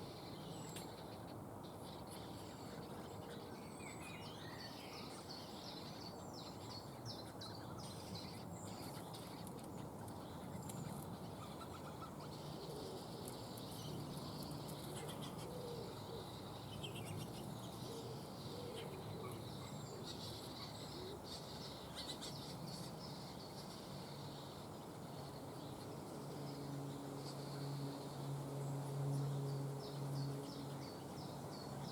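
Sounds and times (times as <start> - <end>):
outdoor background hiss: 0.0 - 31.9
songbirds chirping: 0.0 - 31.9.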